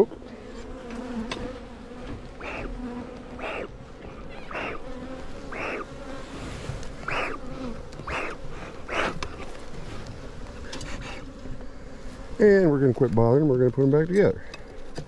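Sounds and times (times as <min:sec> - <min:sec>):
bee smoker bellows puffing: 0:00.0 - 0:13.3
honeybees buzzing: 0:00.0 - 0:15.0.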